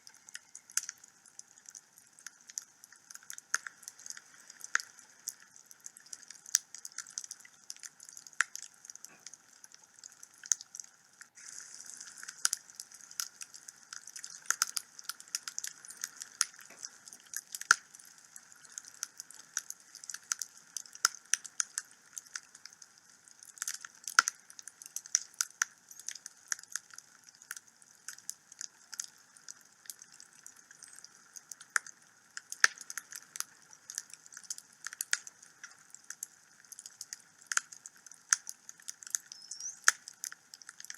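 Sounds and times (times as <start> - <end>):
faint steady hiss: 0.0 - 40.9
wood fire crackling and popping: 0.0 - 40.9.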